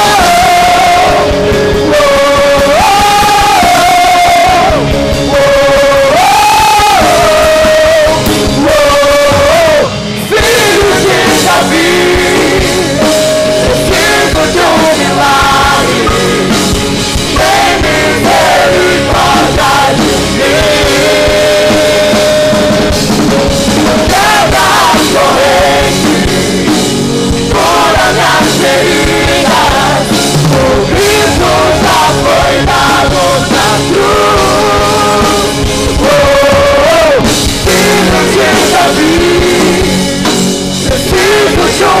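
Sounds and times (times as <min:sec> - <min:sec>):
drum kit: 0:00.0 - 0:42.0
keyboard: 0:00.0 - 0:42.0
person singing lead vocals: 0:00.0 - 0:42.0.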